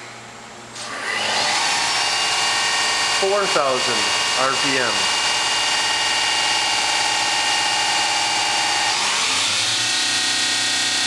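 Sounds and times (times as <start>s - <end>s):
mill spindle whine: 0.8s - 11.0s.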